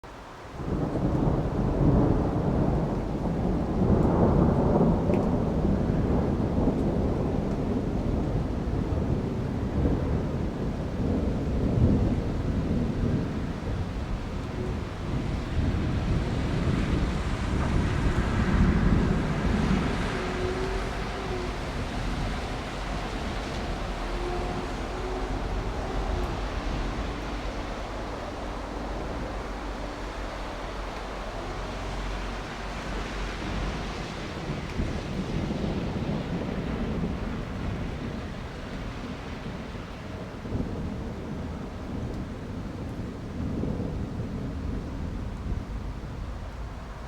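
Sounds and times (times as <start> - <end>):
thunder rumbling: 0.5 - 47.0.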